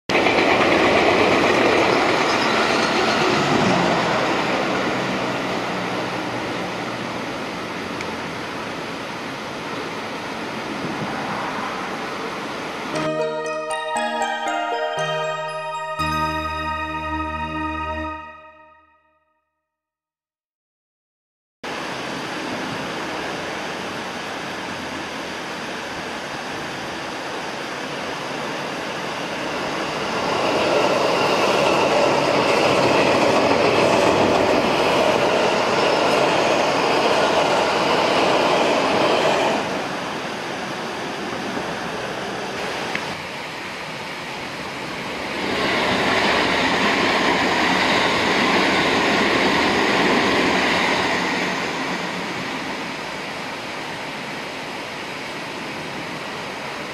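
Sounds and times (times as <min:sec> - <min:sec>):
electric trains passing: 0:00.1 - 0:18.8, 0:21.7 - 0:56.9.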